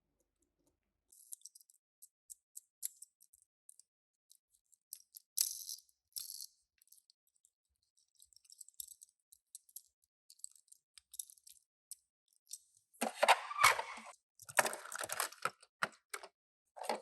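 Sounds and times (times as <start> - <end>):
toy car clicks and rattles: 1.1 - 13.7, 14.4 - 17.0.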